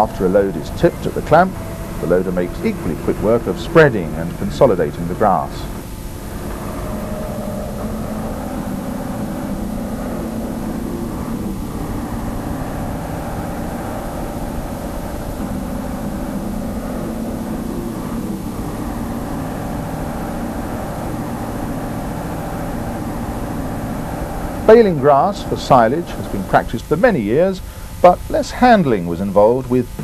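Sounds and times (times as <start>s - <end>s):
heavy diesel engines running: 0.0s - 30.0s.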